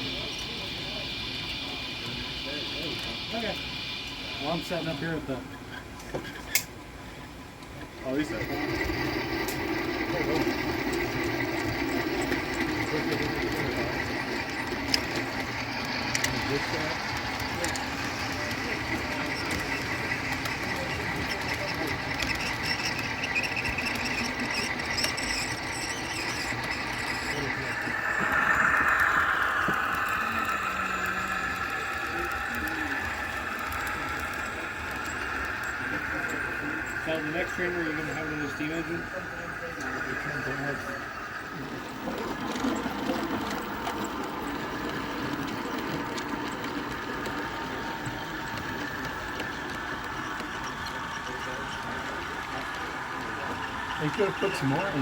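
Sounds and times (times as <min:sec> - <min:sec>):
high-pitched whine: 0:00.0 - 0:06.2, 0:08.0 - 0:55.0
model train humming: 0:00.0 - 0:55.0
wheels clicking on track: 0:00.0 - 0:55.0.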